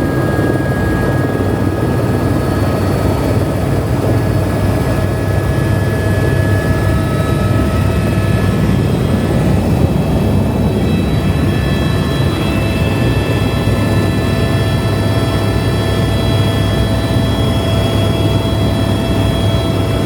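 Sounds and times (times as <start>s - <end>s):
helicopter rotor and engine drone: 0.0s - 20.0s.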